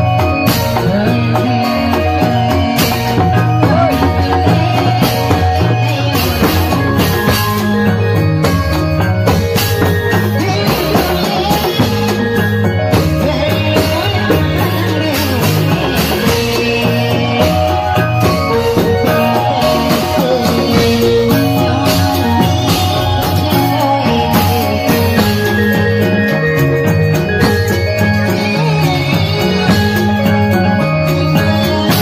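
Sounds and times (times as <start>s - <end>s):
percussion ensemble music: 0.0s - 32.0s.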